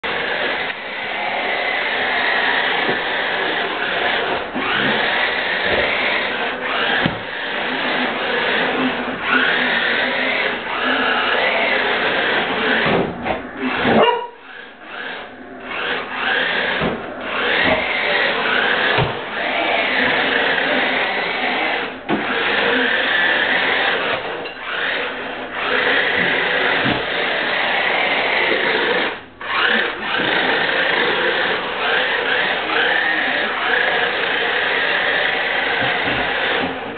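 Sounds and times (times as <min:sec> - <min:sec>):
electric motor whining: 0:00.0 - 0:36.9.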